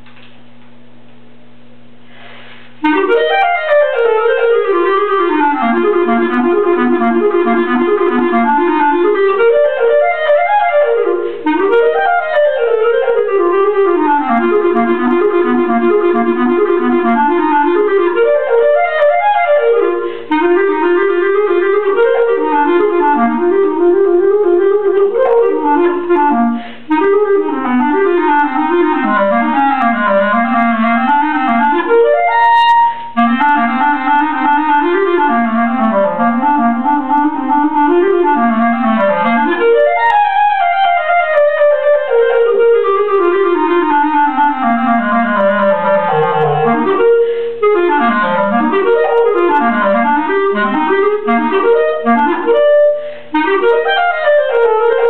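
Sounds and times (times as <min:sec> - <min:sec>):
steady low hum: 0:00.0 - 0:55.0
solo clarinet playing: 0:02.8 - 0:55.0.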